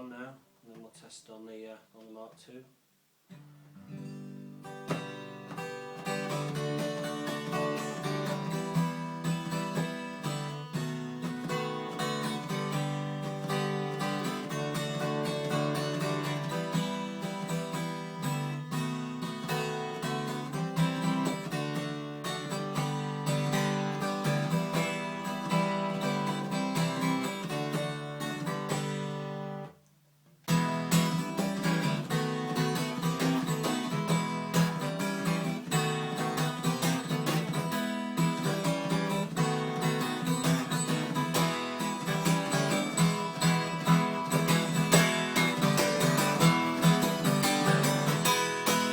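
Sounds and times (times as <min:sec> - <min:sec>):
acoustic guitar strummed chords: 0:03.3 - 0:29.8, 0:30.4 - 0:48.9.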